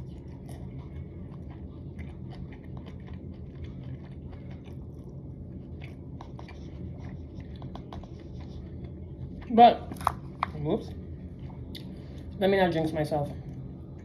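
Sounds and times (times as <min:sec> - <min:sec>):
chewing with wet mouth clicks: 0:00.0 - 0:10.6, 0:11.4 - 0:12.3.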